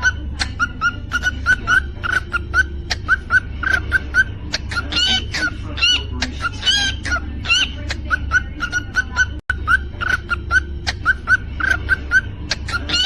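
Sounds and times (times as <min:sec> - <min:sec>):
cockatiel chirping: 0:00.0 - 0:13.0
cockatiel whistling: 0:00.0 - 0:13.0.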